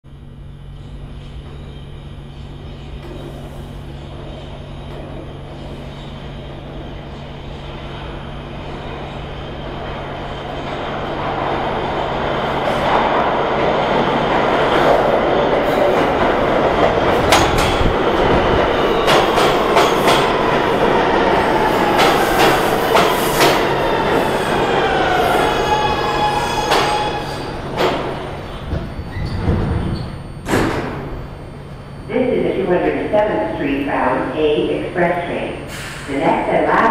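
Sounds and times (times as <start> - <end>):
subway train running noise: 0.1 - 36.9.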